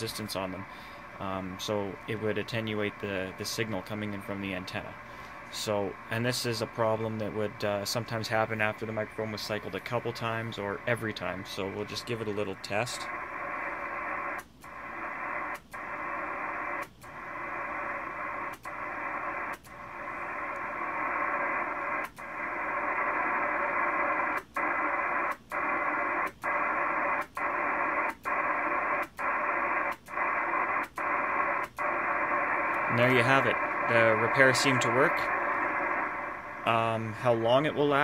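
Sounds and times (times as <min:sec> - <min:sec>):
radio receiver hiss: 0:00.0 - 0:38.0.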